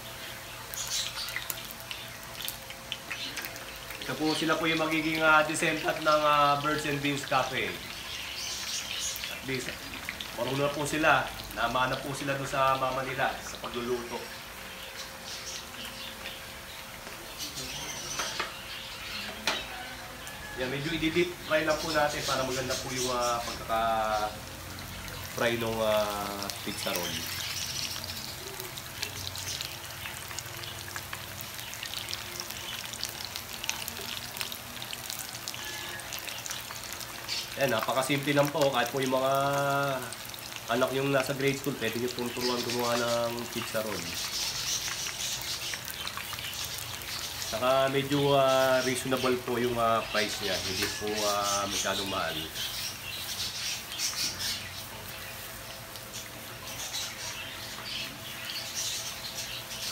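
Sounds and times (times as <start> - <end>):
food deep-frying in hot oil: 0.0 - 59.9.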